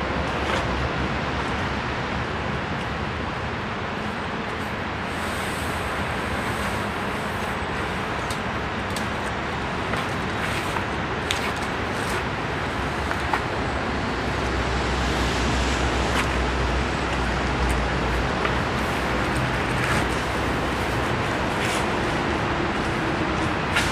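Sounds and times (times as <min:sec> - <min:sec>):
steady rushing noise: 0:00.0 - 0:23.9.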